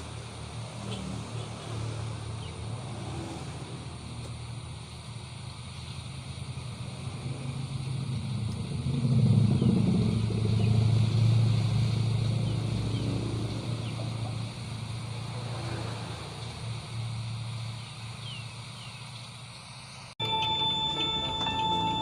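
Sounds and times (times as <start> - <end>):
vehicle engine passing by: 0.0 - 5.0, 6.1 - 19.0.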